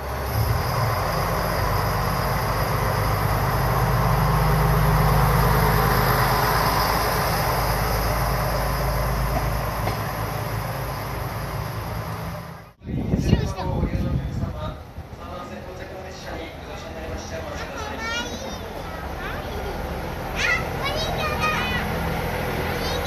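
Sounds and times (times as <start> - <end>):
diesel railcar engine drone: 0.0 - 23.0
train rolling noise: 0.0 - 23.0.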